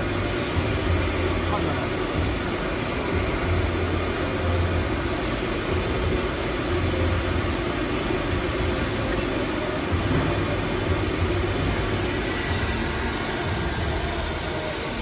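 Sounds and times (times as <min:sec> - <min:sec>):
cutting machine running: 0:00.0 - 0:15.0.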